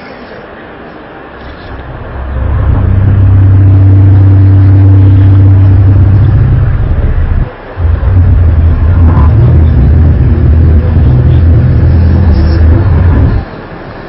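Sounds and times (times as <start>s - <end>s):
loud low drone: 1.1s - 14.0s.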